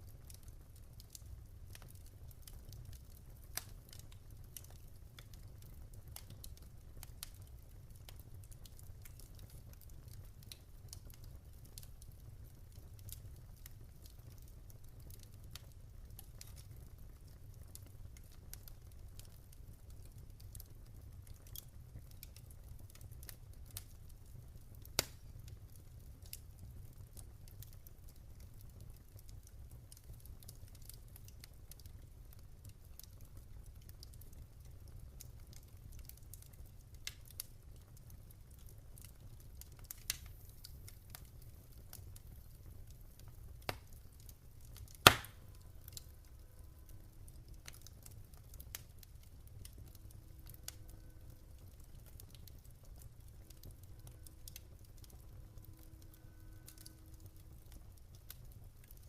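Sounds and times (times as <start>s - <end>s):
fire pops and snaps: 0.0s - 46.1s, 47.4s - 55.3s
low rumble of flames: 0.0s - 59.0s.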